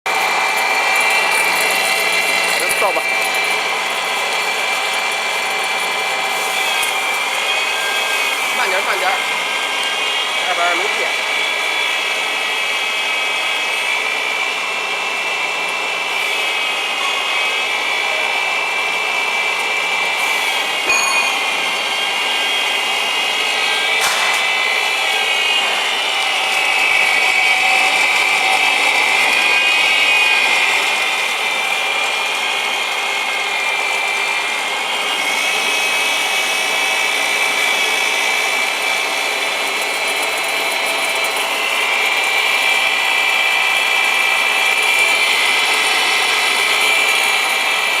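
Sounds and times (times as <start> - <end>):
grinder motor whine: 0.1 - 48.0.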